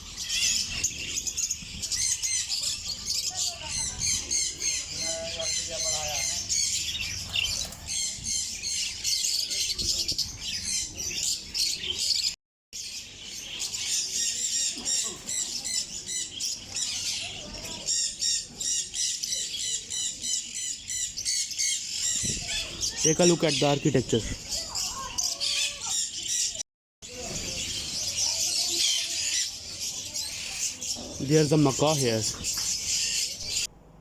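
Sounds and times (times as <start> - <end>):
small birds chirping and squawking: 0.0 - 33.7.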